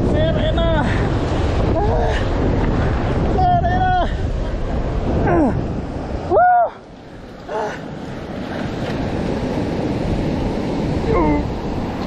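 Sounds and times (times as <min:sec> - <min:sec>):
surf washing over rocks: 0:00.0 - 0:12.0
wind buffeting microphone: 0:00.0 - 0:12.0.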